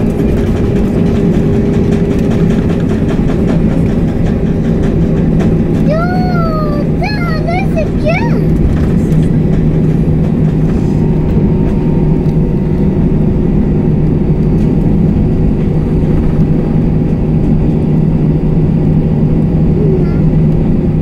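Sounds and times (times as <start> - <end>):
jet engines idling in cabin: 0.0 - 21.0.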